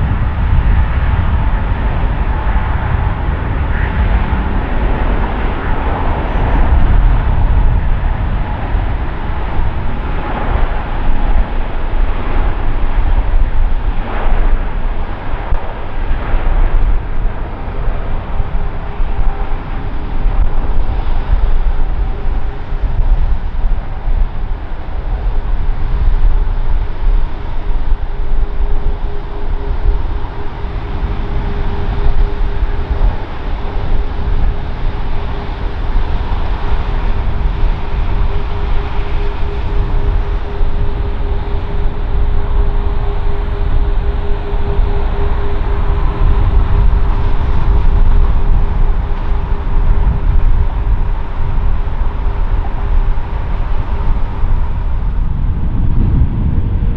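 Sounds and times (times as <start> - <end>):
jet engine roar: 0.0 - 56.9
faint steady tone: 5.2 - 55.2.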